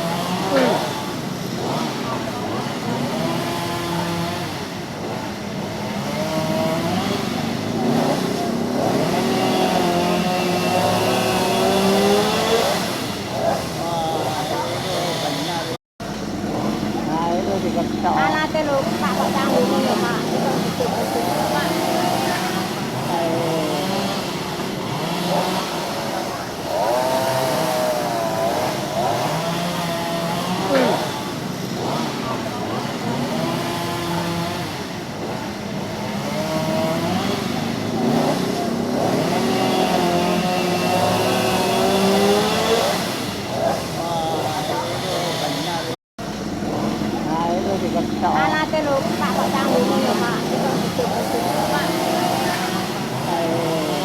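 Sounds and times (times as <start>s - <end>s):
chainsaw engine running: 0.0s - 54.0s
motorbikes and cars passing: 0.0s - 54.0s.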